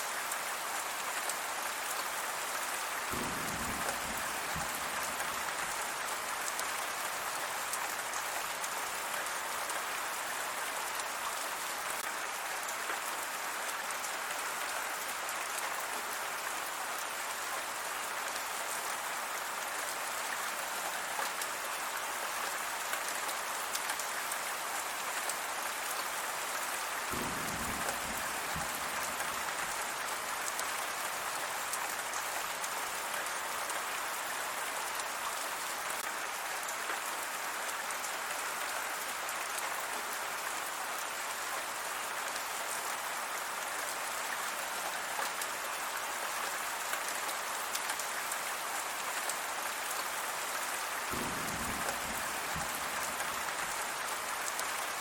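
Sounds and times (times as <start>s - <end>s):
heavy rain pattering: 0.1s - 55.0s.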